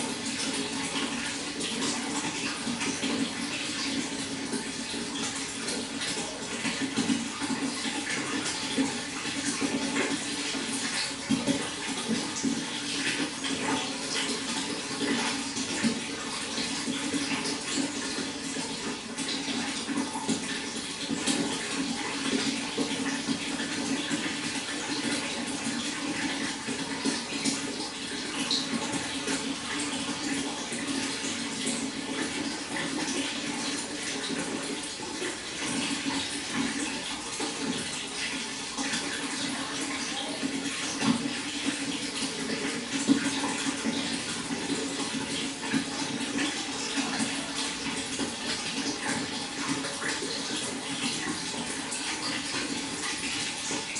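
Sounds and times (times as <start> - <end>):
water flowing and splashing: 0.0 - 53.9.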